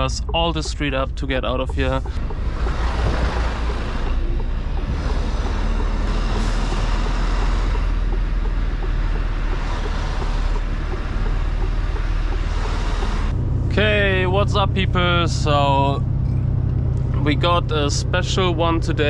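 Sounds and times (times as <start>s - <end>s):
road and mechanical noise: 0.0s - 19.0s
truck diesel engine rumbling: 0.0s - 19.0s.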